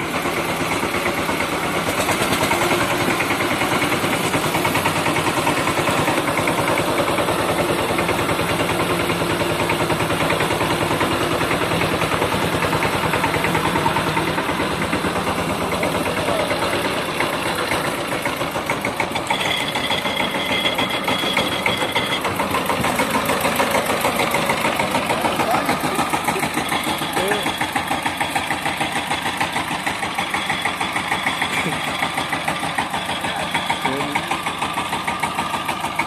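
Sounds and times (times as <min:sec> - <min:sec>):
tractor engine chugging: 0:00.0 - 0:36.0.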